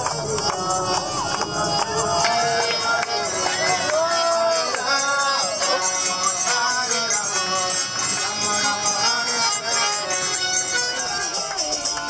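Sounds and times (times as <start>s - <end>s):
harmonium: 0.0s - 12.0s
jingling percussion: 0.0s - 12.0s
man singing a chant: 0.0s - 12.0s.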